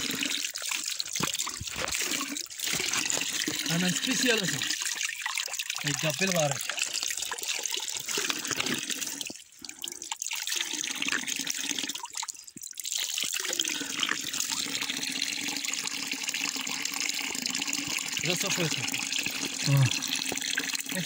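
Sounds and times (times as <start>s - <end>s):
water trickling over rocks: 0.0s - 21.0s.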